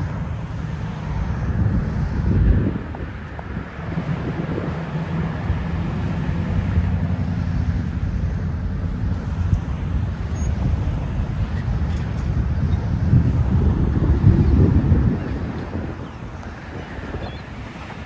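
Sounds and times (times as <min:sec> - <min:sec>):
vehicle engine rumble: 0:00.0 - 0:18.0
wind on microphone: 0:00.0 - 0:18.0.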